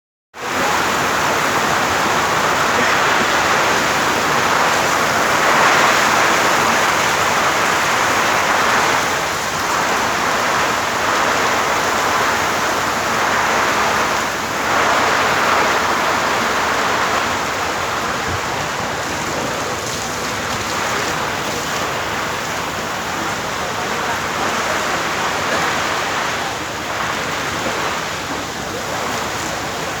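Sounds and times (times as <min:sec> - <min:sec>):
heavy rain falling: 0:00.4 - 0:30.0.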